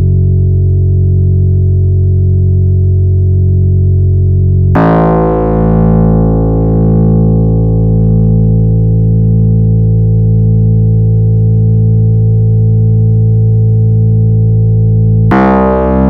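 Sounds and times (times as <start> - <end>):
distorted synthesizer bass drone: 0.0 - 16.0.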